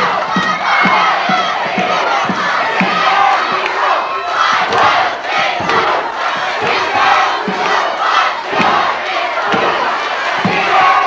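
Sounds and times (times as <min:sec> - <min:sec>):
crowd yelling and cheering: 0:00.0 - 0:11.0.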